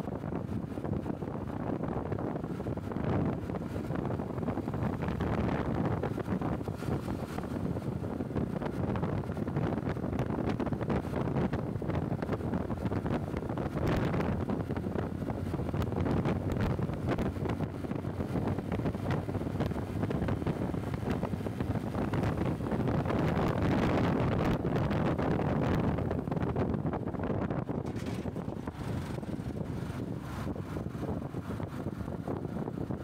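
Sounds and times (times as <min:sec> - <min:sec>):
road and vehicle noise: 0:00.0 - 0:33.0
wind buffeting microphone: 0:00.0 - 0:33.0.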